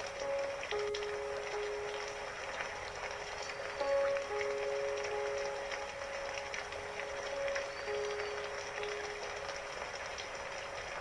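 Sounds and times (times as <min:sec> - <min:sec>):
soft held music notes: 0:00.0 - 0:11.0
steady rain: 0:00.0 - 0:11.0.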